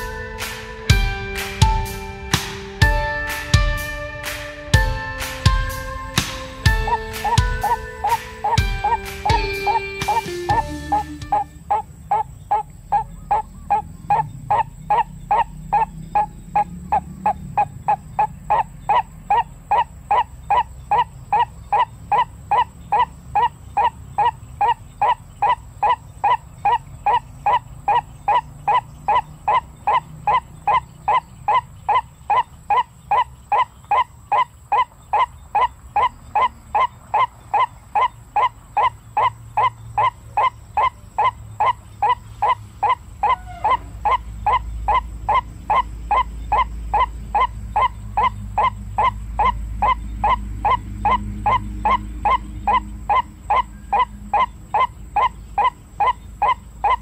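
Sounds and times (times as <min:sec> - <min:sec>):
waterhen calling: 0:00.0 - 0:01.1, 0:05.4 - 0:57.0.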